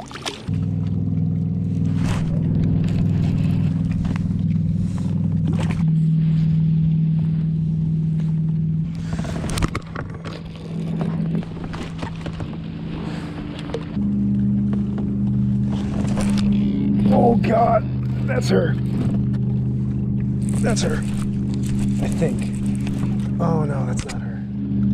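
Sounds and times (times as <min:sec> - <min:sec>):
music of sustained low chords: 0:00.5 - 0:24.9.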